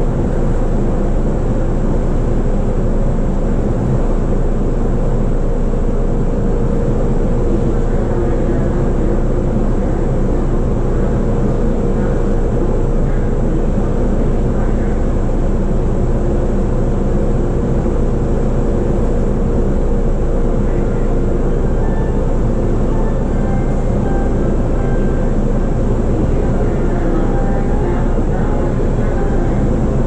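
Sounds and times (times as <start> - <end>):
steady train hum: 0.0 - 30.0
train wheels rumbling on rail: 0.0 - 30.0.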